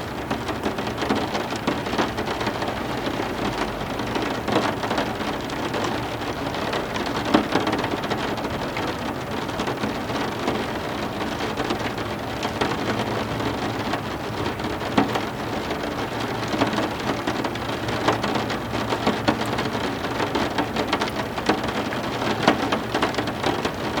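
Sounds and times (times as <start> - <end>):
heavy rain falling: 0.0 - 24.0
raindrops striking hard surfaces: 0.1 - 24.0.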